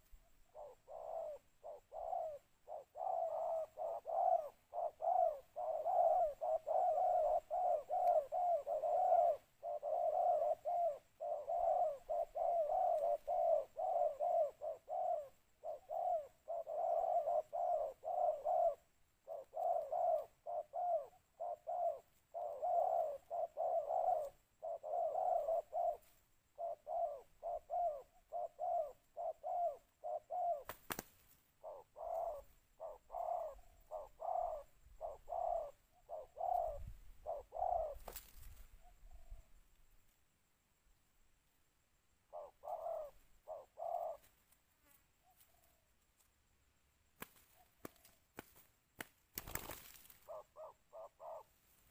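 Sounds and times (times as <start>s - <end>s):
dove cooing: 0.0s - 39.6s, 42.1s - 45.9s, 49.4s - 51.9s.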